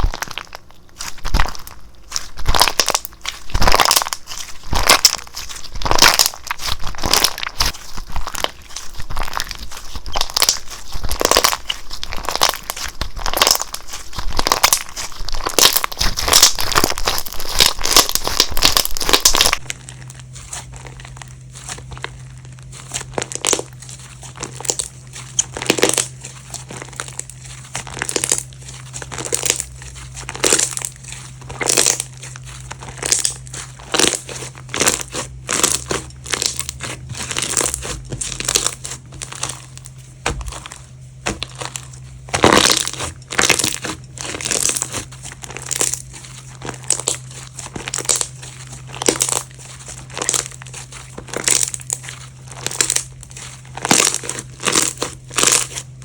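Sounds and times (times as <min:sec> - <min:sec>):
faint steady hum: 0:00.0 - 0:56.0
slime squishing and popping: 0:00.0 - 0:56.0.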